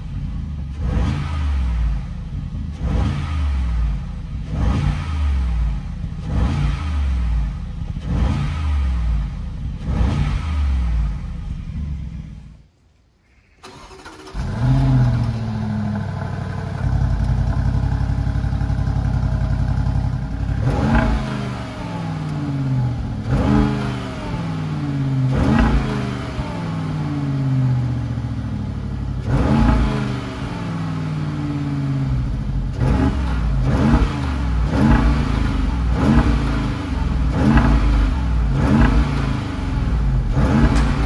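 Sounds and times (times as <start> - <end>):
car engine accelerating hard: 0.0 - 12.5, 14.0 - 41.0.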